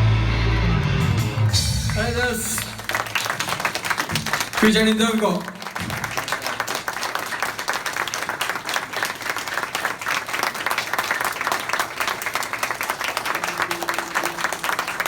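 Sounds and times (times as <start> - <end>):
audience applauding: 1.1 - 15.0.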